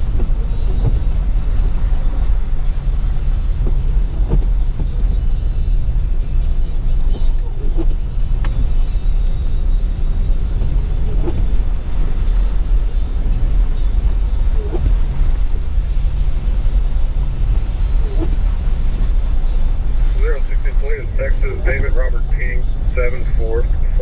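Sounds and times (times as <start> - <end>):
vehicle cabin rumble: 0.0 - 24.0
windshield wipers sweeping: 0.0 - 24.0.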